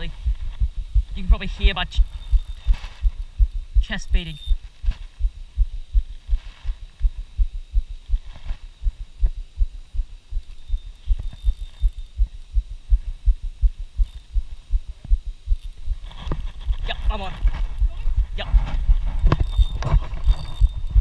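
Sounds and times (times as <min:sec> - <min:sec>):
rapid low thuds: 0:00.0 - 0:21.0.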